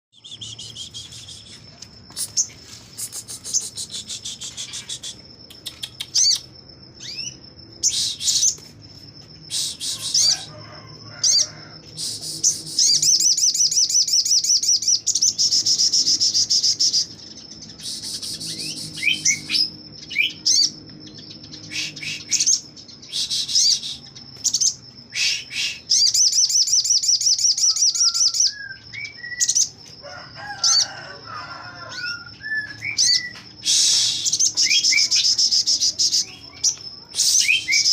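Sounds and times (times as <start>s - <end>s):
bird singing rattling trills: 0.1s - 37.9s.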